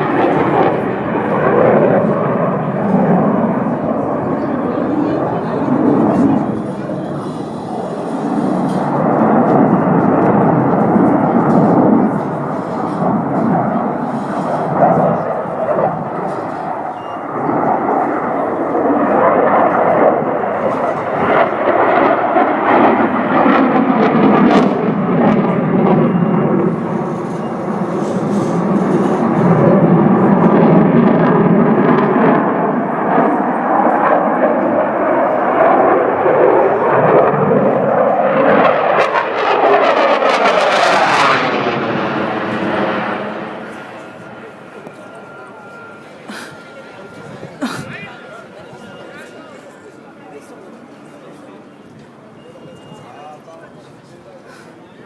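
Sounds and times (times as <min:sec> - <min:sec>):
jet aircraft roaring past: 0:00.0 - 0:55.0.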